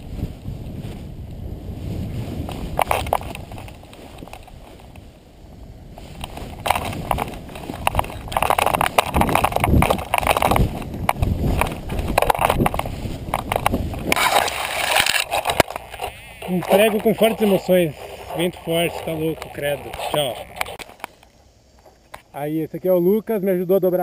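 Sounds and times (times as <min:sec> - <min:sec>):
camera dragging through grass: 0:00.0 - 0:22.3
wind buffeting camera: 0:00.0 - 0:22.4.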